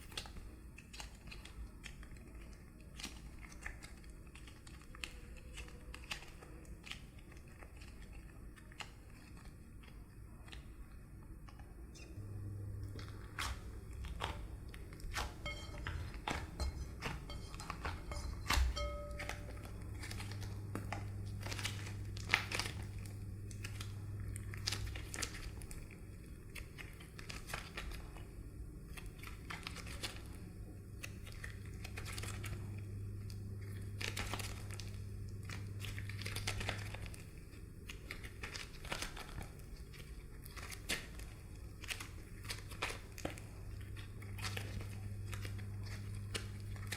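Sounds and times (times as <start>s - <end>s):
low steady hum: 0.0s - 46.9s
slime crinkling and crackling: 0.0s - 46.9s.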